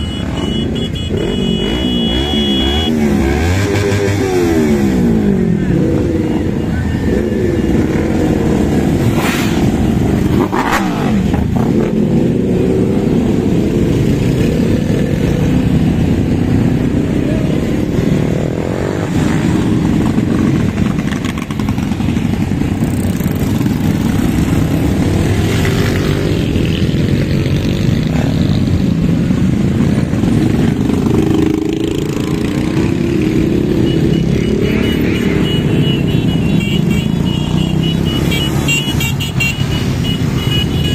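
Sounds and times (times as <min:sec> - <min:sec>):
engines revving: 0:00.0 - 0:40.9
motorcycles and cars passing: 0:00.0 - 0:40.9.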